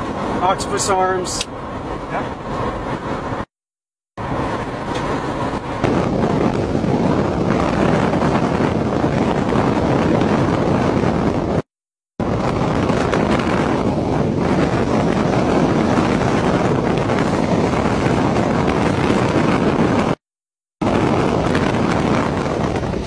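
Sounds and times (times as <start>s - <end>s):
wind buffeting microphone: 0.0s - 3.5s, 4.2s - 20.2s, 20.8s - 23.0s.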